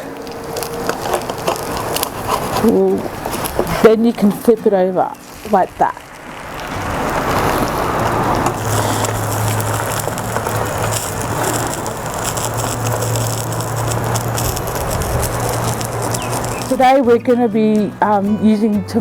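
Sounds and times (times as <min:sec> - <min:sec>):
egg frying in oil: 0:00.0 - 0:17.2.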